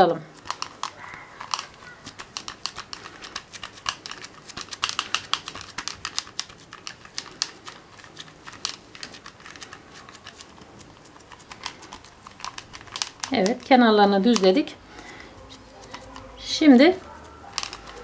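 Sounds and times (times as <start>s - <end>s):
plastic and glove crackling: 0.0s - 18.0s.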